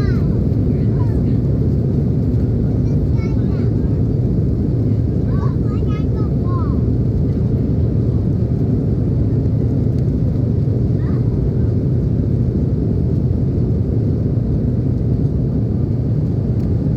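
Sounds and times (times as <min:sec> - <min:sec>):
jet engines rumbling: 0:00.0 - 0:16.9.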